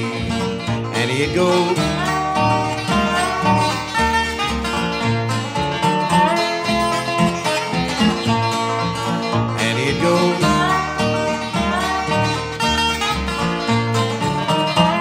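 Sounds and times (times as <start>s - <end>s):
bluegrass band playing: 0.0s - 15.0s
dobro sliding lead notes: 0.0s - 15.0s.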